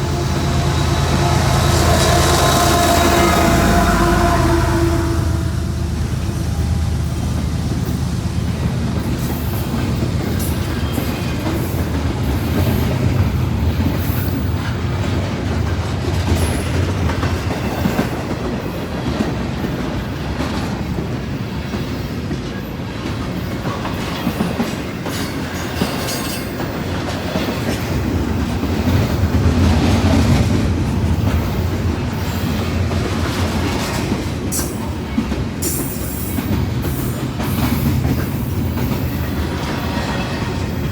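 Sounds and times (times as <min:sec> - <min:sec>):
freight train rumble: 0:00.0 - 0:40.9.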